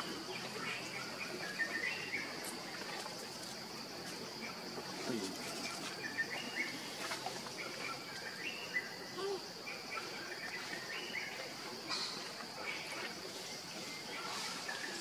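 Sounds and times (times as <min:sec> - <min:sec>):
insect chirps: 0:00.0 - 0:15.0.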